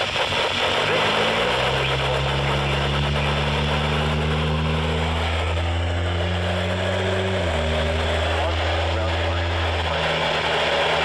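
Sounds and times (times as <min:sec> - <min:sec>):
low buzzing hum: 0:00.0 - 0:11.0
radio static hiss: 0:00.0 - 0:11.0.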